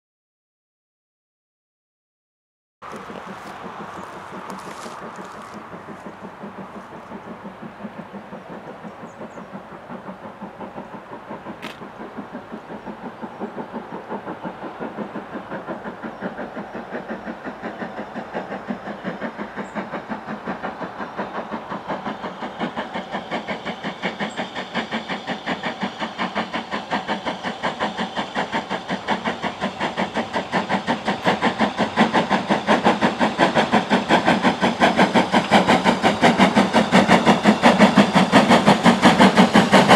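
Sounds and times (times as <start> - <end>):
steam locomotive exhaust beats: 2.8 - 39.9.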